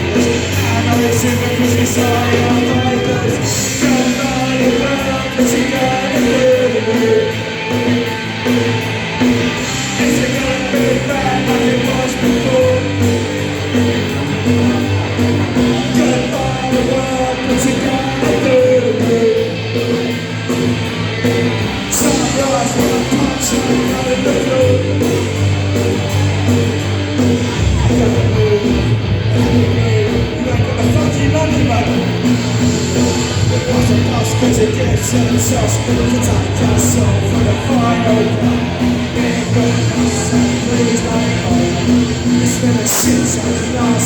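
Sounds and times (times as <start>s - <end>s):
punk rock band playing: 0.0s - 44.0s.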